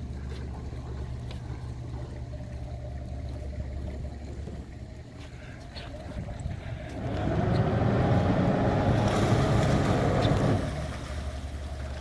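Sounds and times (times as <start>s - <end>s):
boat engine churning rumble: 0.0s - 12.0s.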